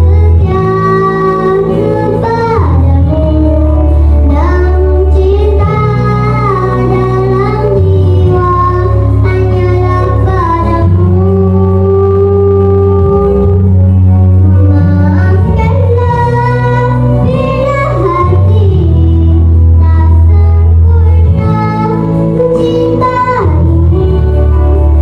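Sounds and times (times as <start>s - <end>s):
girl singing into a microphone: 0.0s - 13.8s, 14.4s - 25.0s
sustained low instrumental notes: 0.0s - 25.0s.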